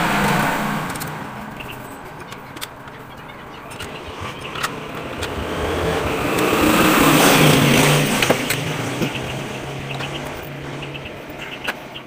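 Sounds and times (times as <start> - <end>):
vehicle driving past: 0.0 - 12.0.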